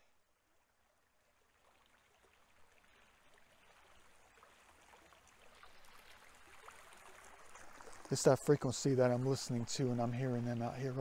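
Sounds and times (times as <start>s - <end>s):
creek babbling over rocks: 0.2s - 11.0s.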